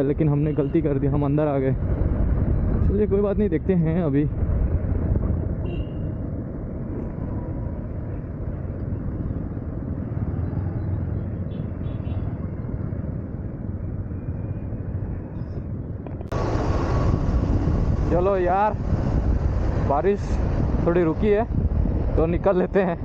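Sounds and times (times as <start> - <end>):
motorcycle engine rumble: 0.0 - 23.0
wind buffeting microphone: 0.0 - 23.0.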